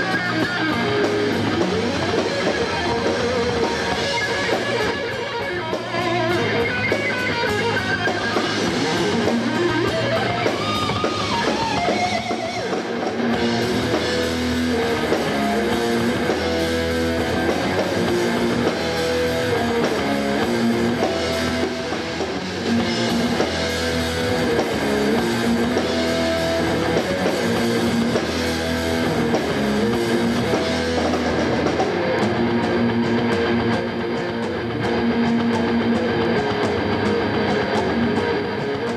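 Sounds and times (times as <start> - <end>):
lead guitar bending: 0.0 - 38.9
rock band playing: 0.0 - 38.9.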